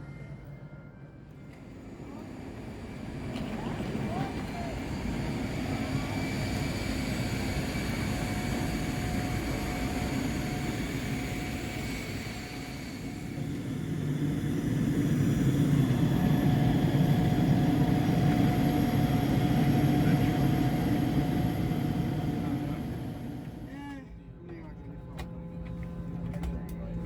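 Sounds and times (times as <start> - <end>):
aircraft rumble with whines: 0.0 - 27.0.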